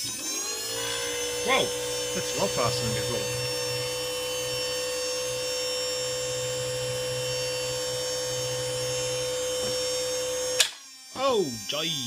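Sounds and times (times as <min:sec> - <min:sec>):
small motor whining: 0:00.0 - 0:12.0.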